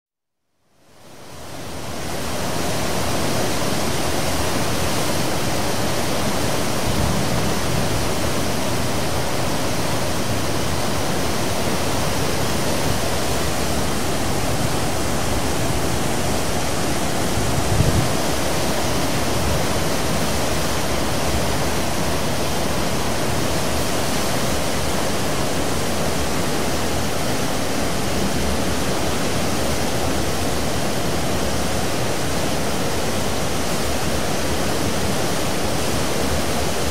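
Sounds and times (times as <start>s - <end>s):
low water surges: 0.7s - 36.9s
wake water rushing: 1.5s - 36.9s.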